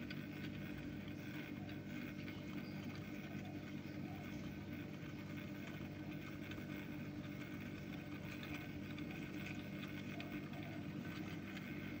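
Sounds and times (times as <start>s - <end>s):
motorized turntable humming: 0.0s - 12.0s.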